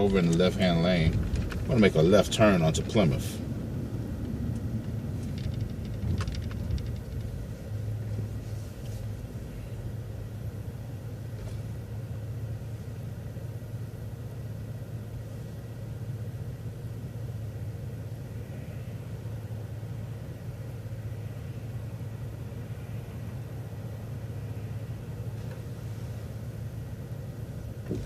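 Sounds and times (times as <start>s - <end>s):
bus engine hum and rumble: 0.0s - 28.0s.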